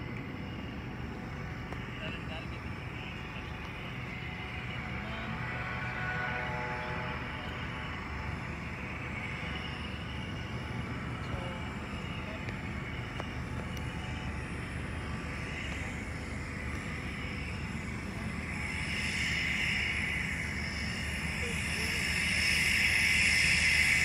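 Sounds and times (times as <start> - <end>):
turboprop engine rumble and whine: 0.0 - 24.0.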